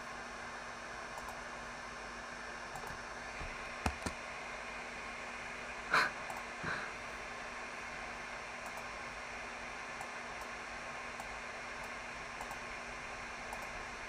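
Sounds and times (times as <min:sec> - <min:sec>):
room and microphone hiss: 0:00.0 - 0:14.0.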